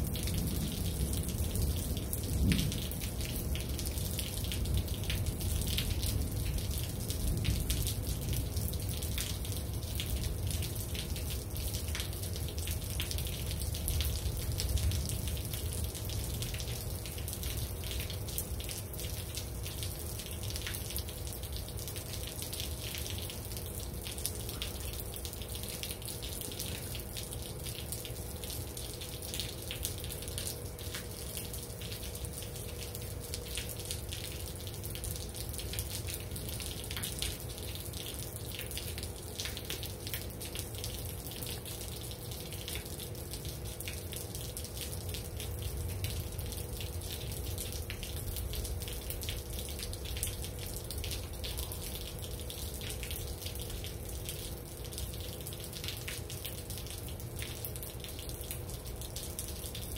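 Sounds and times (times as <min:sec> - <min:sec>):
faint steady hum: 0:00.0 - 0:59.9
rain drops tapping and dripping: 0:00.0 - 0:59.9.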